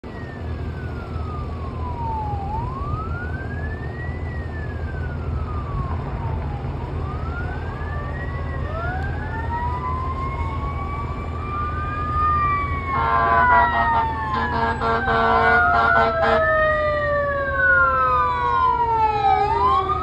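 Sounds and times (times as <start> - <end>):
fire engine siren wailing: 0.0 - 20.0
second wailing siren tone: 0.0 - 20.0.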